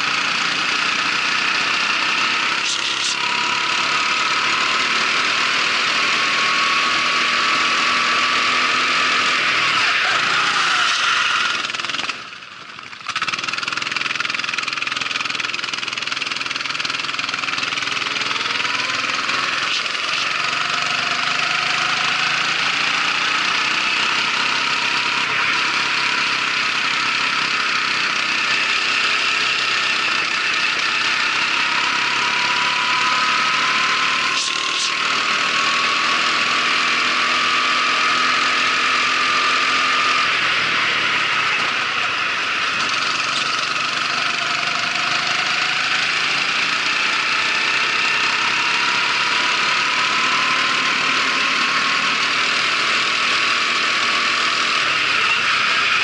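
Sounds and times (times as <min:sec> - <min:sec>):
racing kart engine running hard: 0:00.0 - 0:56.0.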